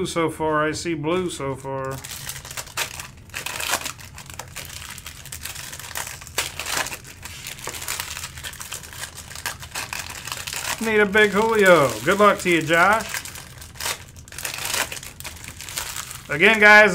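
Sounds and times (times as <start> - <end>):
foil wrappers crackling: 1.8 - 16.9.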